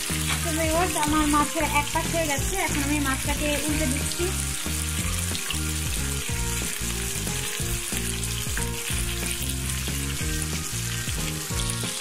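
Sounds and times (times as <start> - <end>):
background music low notes: 0.0 - 12.0
fish sizzling in hot oil: 0.0 - 12.0.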